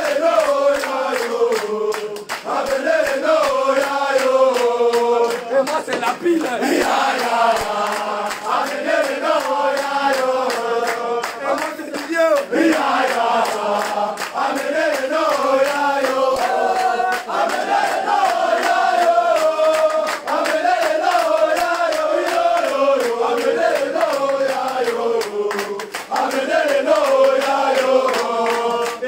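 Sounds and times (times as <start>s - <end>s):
group singing and chanting: 0.0s - 29.0s.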